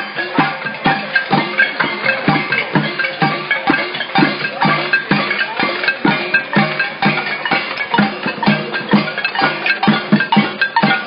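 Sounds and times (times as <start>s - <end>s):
drums beating steady rhythm: 0.0s - 11.0s.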